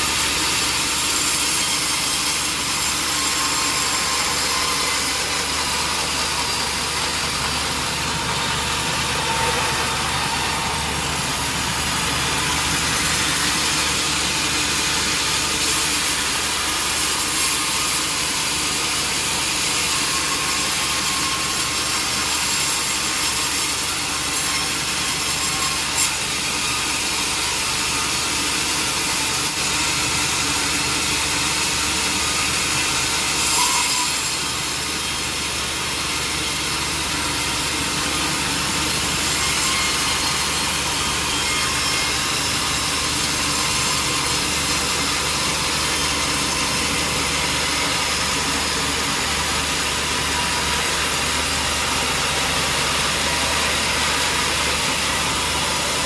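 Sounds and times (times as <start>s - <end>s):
saw cutting through wood: 0.0s - 56.0s.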